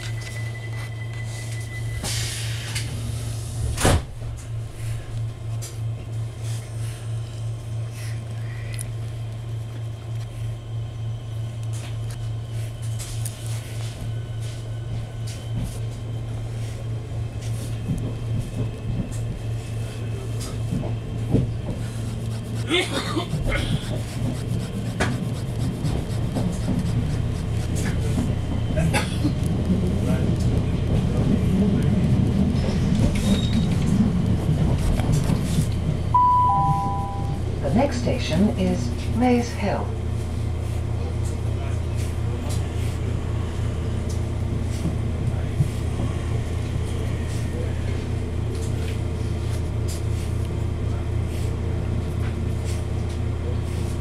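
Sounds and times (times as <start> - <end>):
train carriage rumble: 0.0 - 54.0.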